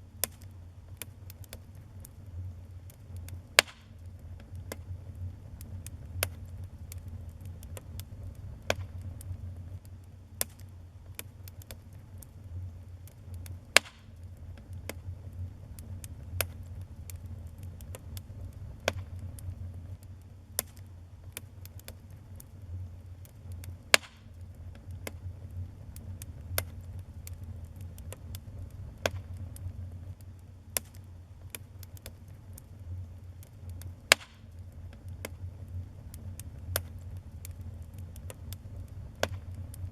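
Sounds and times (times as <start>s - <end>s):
fire flames rumbling: 0.0s - 39.9s
wood fire crackling and popping: 0.0s - 39.9s.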